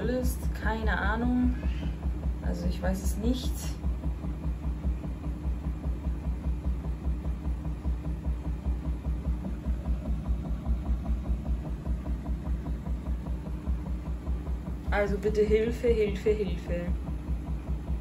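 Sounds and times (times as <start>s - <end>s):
washing machine spin thrum: 0.0s - 18.0s.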